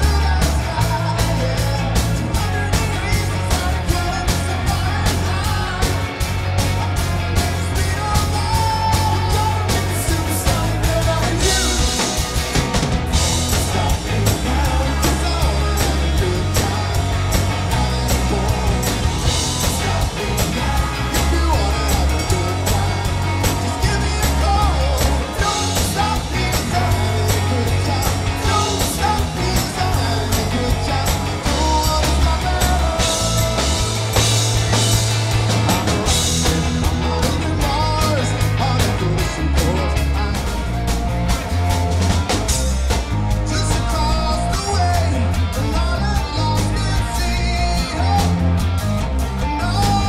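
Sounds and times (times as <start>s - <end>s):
drum kit: 0.0s - 50.0s
electric guitars: 0.0s - 50.0s.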